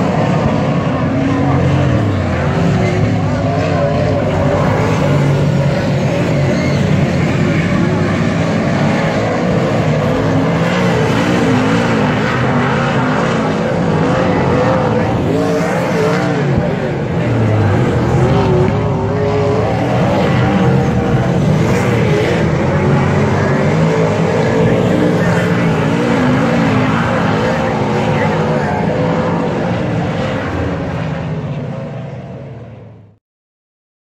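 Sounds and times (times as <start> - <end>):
race car engines lapping: 0.0 - 33.2.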